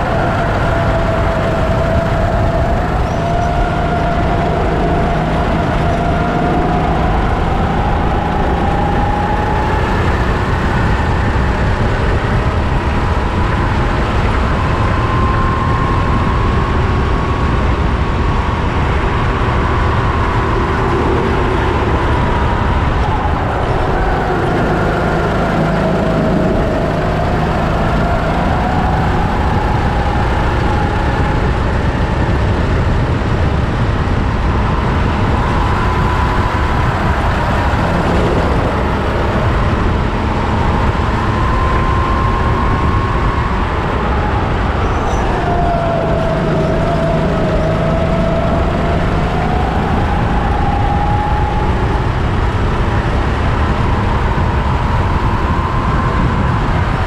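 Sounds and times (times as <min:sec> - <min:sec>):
constant low rumble: 0:00.0 - 0:57.0
kart engine revving: 0:00.0 - 0:57.0.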